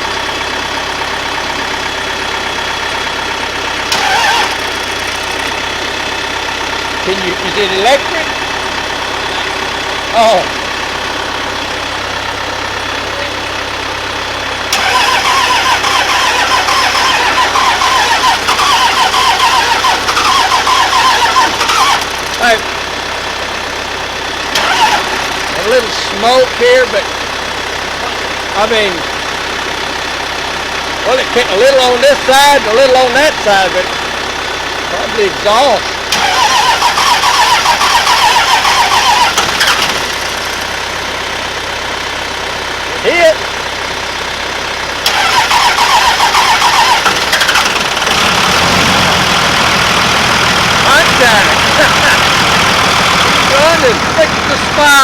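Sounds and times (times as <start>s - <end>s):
diesel engine cranking: 0.0s - 55.0s.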